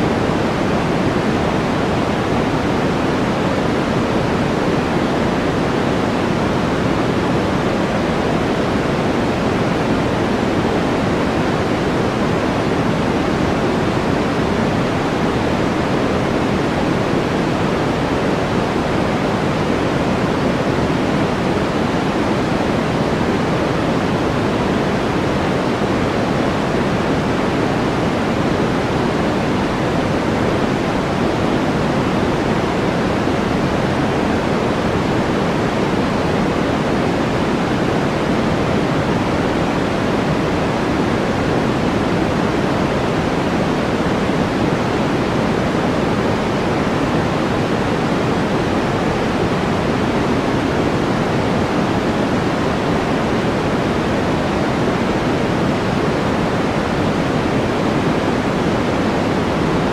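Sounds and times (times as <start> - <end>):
white noise: 0.0 - 59.9.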